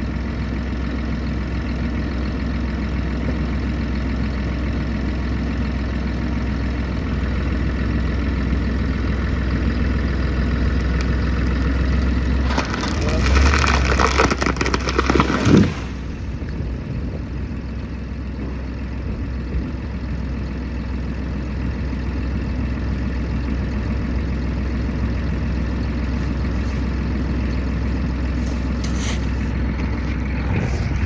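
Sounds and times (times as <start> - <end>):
chainsaw engine idling: 0.0 - 31.0.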